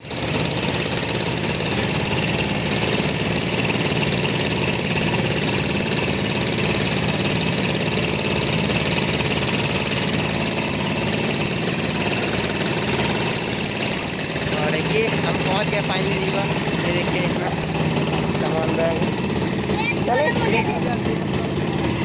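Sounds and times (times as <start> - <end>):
train engine droning: 0.1 - 22.0.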